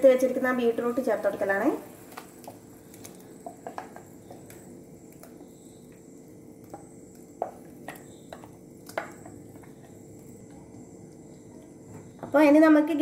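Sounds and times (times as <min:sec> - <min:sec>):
faint steady sizzle: 0:00.0 - 0:13.0.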